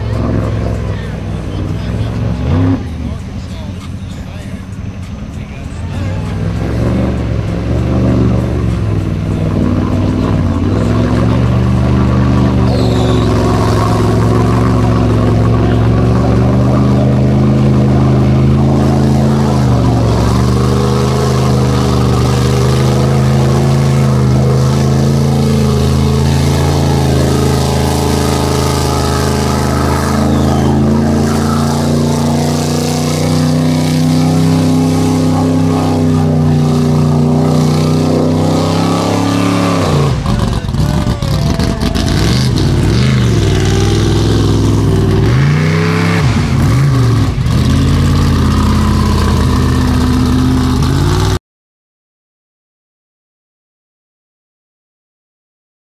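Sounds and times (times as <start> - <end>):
buggy engine revving: 0.0 - 51.4
water splashing: 2.3 - 51.1.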